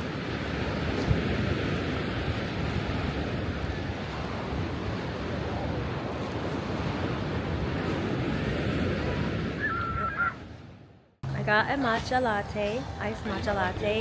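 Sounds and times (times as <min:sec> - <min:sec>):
ocean surf washing in: 0:00.0 - 0:14.0
wind buffeting microphone: 0:00.0 - 0:14.0.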